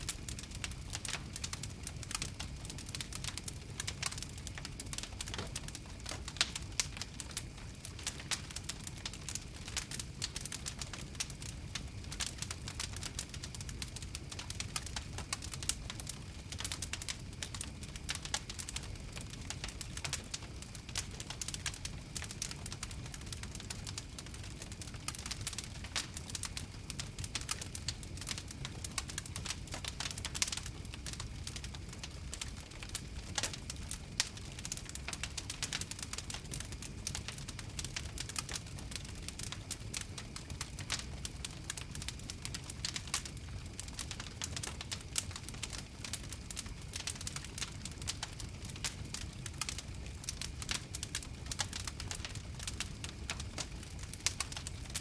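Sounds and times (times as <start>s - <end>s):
campfire snaps and pops: 0.0s - 55.0s
low rumble of flames: 0.0s - 55.0s.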